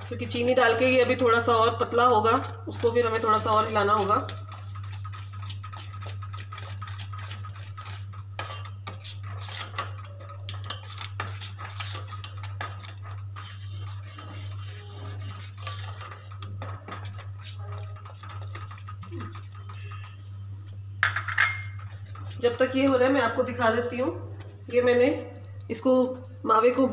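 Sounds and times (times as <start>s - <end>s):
metal spoon scraping a pot: 0.0s - 24.0s
steady low hum: 0.0s - 26.9s.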